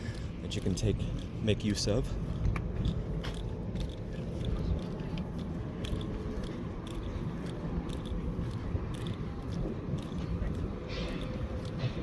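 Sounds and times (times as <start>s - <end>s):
wind buffeting microphone: 0.0s - 12.0s
light clicks and crunches: 0.1s - 12.0s.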